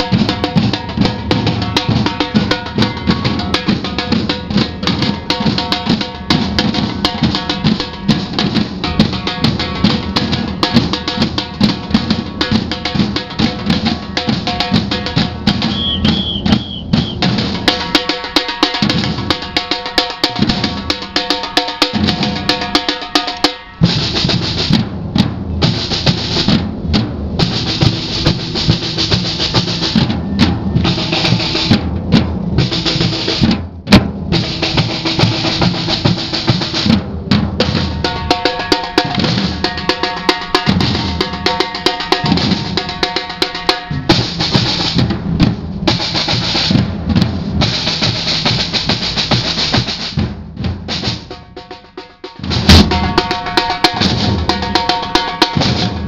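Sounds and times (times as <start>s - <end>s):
surdo bass drums: 0.0s - 23.0s, 23.8s - 56.0s
metal-shelled drums struck: 0.0s - 56.0s
snare drums: 0.0s - 56.0s.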